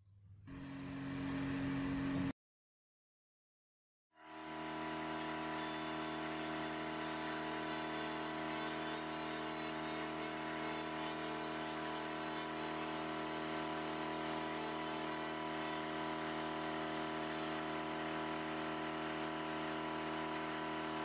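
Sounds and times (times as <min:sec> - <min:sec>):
laser cleaner buzzing hum: 0:00.5 - 0:02.3, 0:04.2 - 0:21.0.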